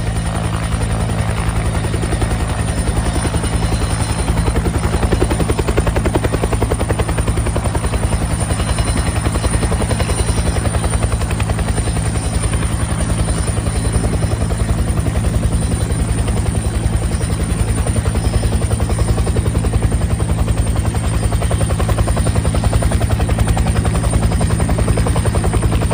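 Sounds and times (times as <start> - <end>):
helicopter rotor beating: 0.0 - 25.9
high turbine whine: 0.0 - 25.9.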